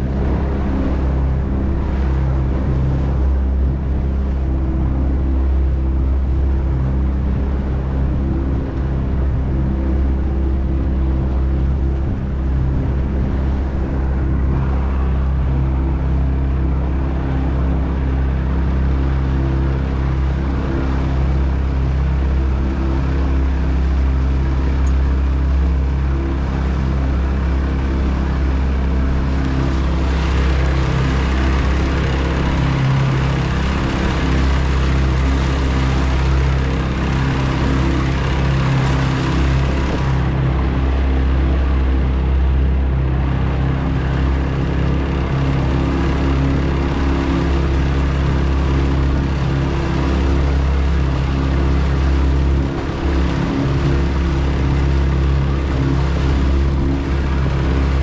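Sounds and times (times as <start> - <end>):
outboard motor humming: 0.0 - 58.0
water rushing along hull: 0.0 - 58.0.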